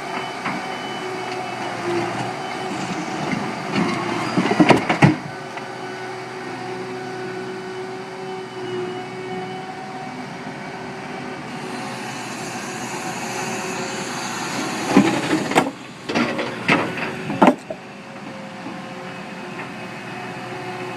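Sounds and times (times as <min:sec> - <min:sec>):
diesel engine running under load: 0:00.0 - 0:20.9.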